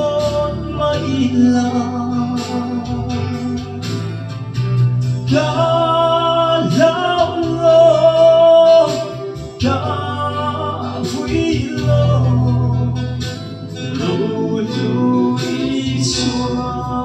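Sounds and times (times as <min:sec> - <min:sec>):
man singing gospel through speaker: 0:00.0 - 0:03.8, 0:05.2 - 0:17.0
backing track: 0:00.0 - 0:17.0.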